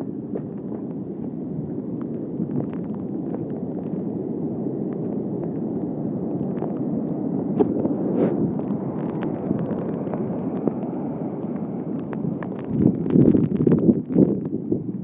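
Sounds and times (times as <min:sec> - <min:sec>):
rain ticking on camera: 0:00.0 - 0:15.0
storm wind buffeting microphone: 0:00.0 - 0:15.0
surf: 0:00.0 - 0:15.0.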